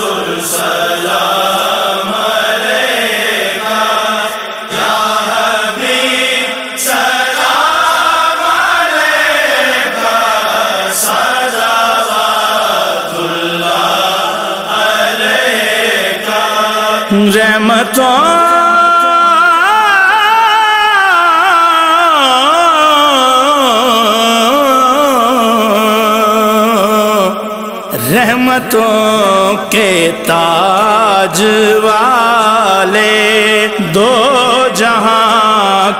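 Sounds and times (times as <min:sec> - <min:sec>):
men chanting: 0:00.0 - 0:35.9.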